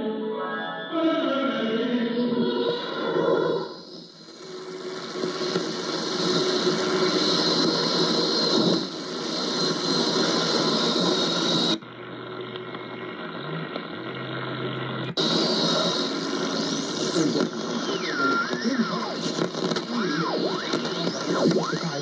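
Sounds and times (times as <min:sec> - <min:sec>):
radio static and hiss: 0:02.3 - 0:22.0.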